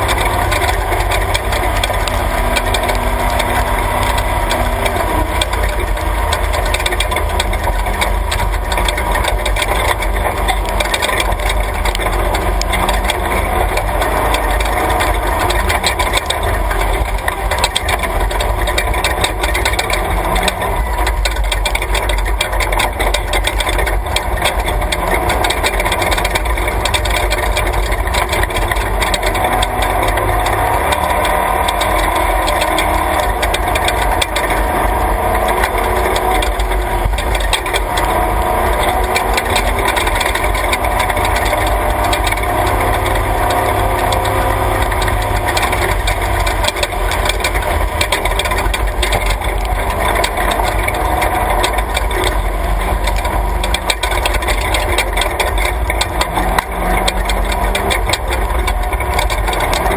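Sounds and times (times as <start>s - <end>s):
body and suspension rattling: 0.0s - 59.9s
vehicle engine under power: 0.0s - 59.9s.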